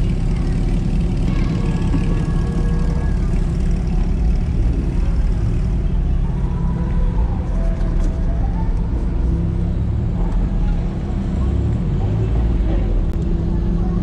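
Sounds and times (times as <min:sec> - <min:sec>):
car engine low drone: 0:00.0 - 0:14.0.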